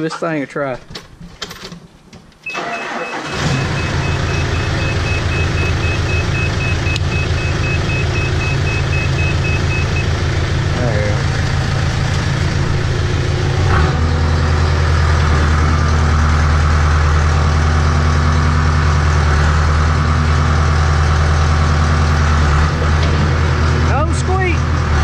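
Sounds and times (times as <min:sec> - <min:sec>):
diesel engine running: 0:02.5 - 0:25.0.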